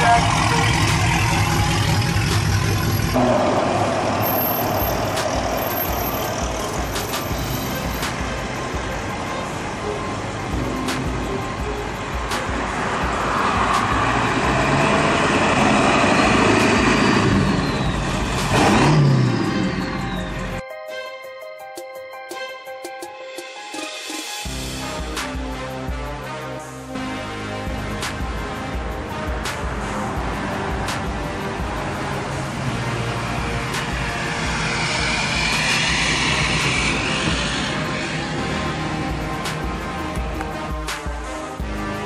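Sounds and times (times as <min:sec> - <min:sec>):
traffic passing: 0:00.0 - 0:20.6, 0:26.7 - 0:42.0.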